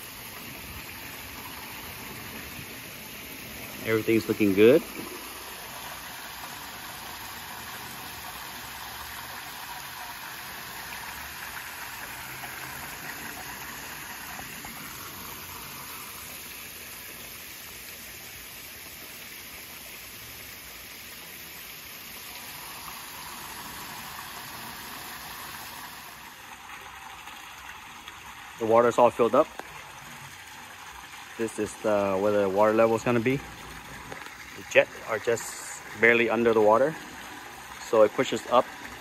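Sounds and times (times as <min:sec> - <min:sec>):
small waterfall spilling: 0:00.0 - 0:39.0
water jets splashing into pond: 0:00.0 - 0:39.0.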